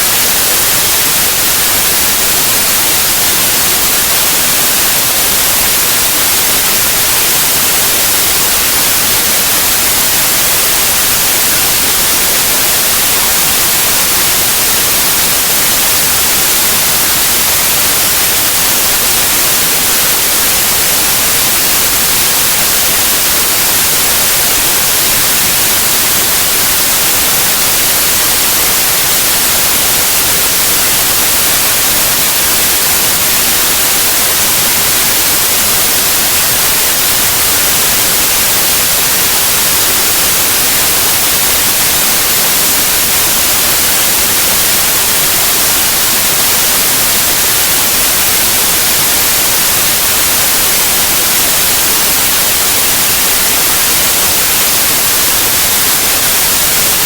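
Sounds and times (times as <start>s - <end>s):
loud white noise hiss: 0.0s - 57.0s.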